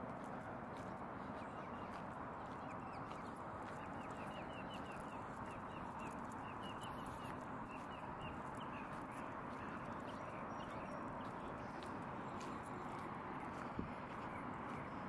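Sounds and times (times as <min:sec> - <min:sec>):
footsteps on pavement: 0:00.1 - 0:15.0.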